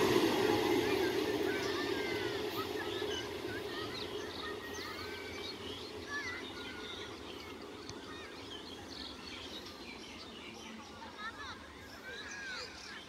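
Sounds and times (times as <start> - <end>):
train running: 0.0 - 13.0
small birds chirping: 1.0 - 13.0.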